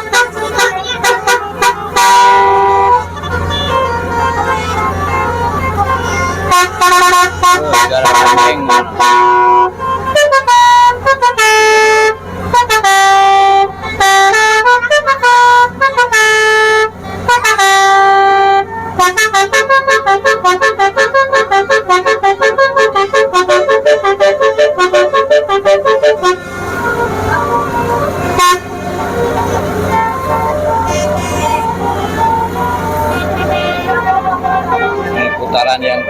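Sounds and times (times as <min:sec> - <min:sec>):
multi-tone musical horn: 0:00.0 - 0:36.0.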